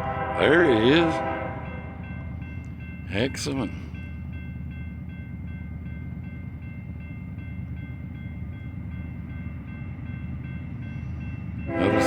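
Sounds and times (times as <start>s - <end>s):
crossing signal bell ringing: 0.0s - 12.0s
freight train rumbling: 0.0s - 12.0s.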